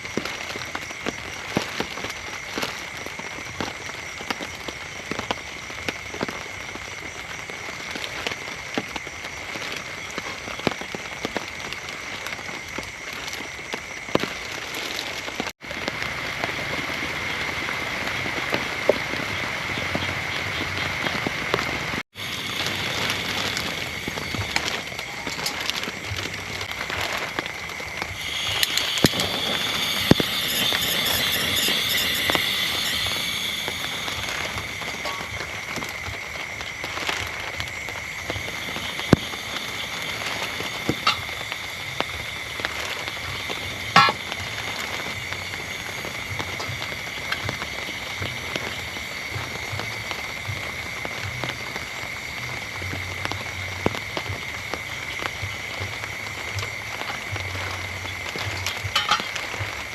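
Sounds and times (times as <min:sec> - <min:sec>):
sharp ticks and crackles: 0:00.0 - 0:59.9
steady rain falling: 0:00.0 - 0:59.9.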